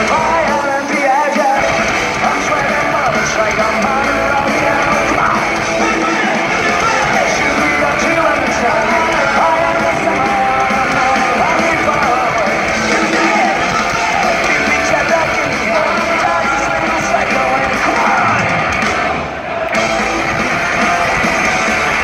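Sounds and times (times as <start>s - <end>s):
live rock band through pa: 0.0s - 22.0s.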